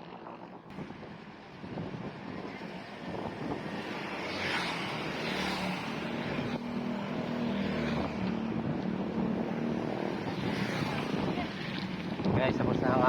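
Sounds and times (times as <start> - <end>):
road noise: 0.0 - 13.0
wind on microphone: 0.0 - 13.0.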